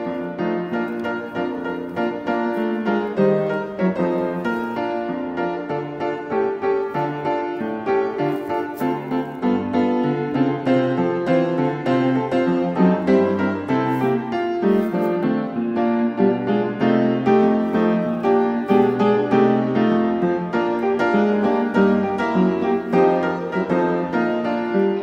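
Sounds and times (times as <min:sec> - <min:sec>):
piano playing notes: 0:00.0 - 0:25.0.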